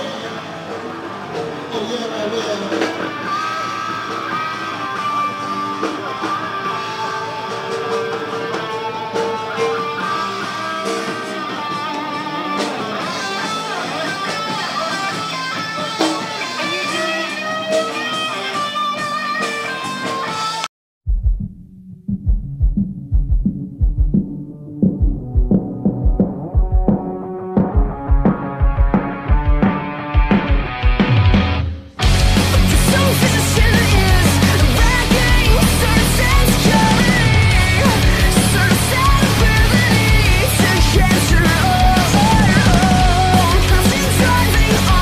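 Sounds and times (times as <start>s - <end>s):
guitar music: 0.0s - 20.7s, 24.4s - 45.0s.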